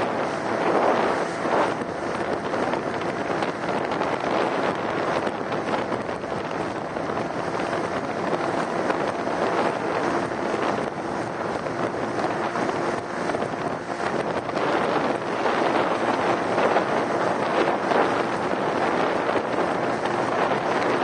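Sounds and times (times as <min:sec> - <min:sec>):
boat running noise: 0:00.0 - 0:21.0
wind buffeting microphone: 0:00.0 - 0:21.0.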